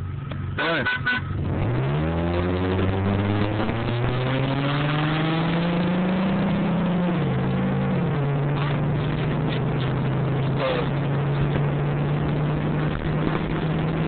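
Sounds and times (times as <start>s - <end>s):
engine at full throttle: 0.0s - 14.0s.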